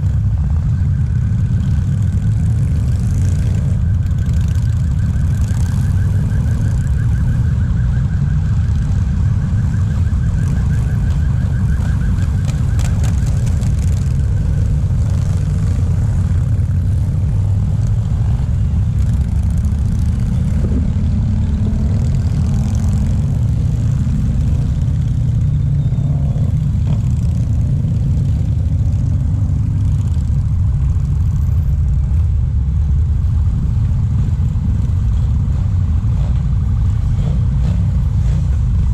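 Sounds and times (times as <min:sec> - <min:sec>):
motorcycle engines rumbling: 0:00.0 - 0:38.9.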